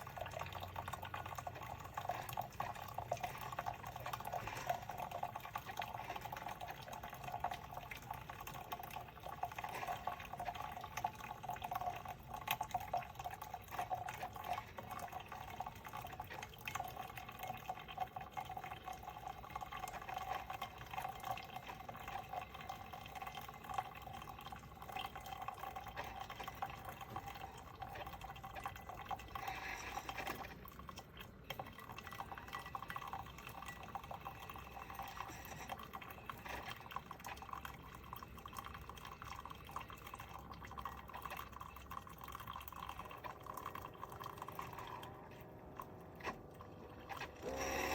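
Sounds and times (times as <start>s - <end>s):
coffee trickling and dripping: 0.0s - 47.9s.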